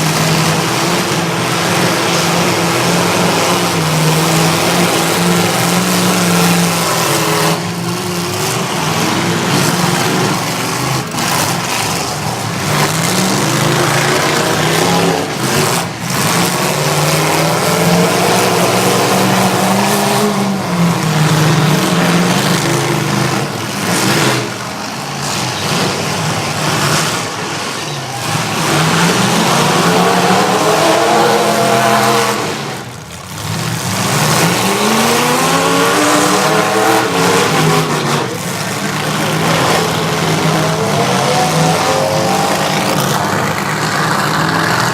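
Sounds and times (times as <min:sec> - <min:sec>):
truck engines revving hard: 0:00.0 - 0:44.9.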